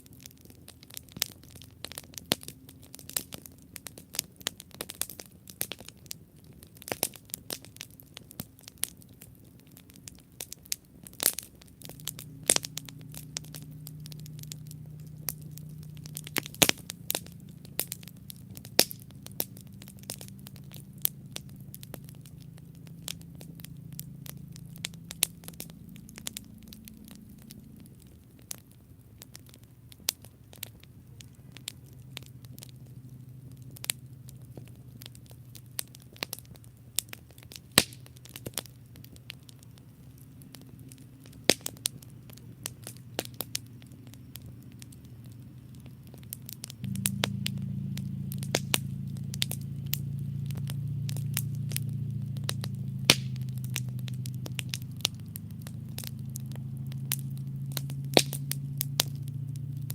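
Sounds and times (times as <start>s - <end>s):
campfire crackling: 0.0s - 59.9s
low steady rumble: 0.0s - 59.9s.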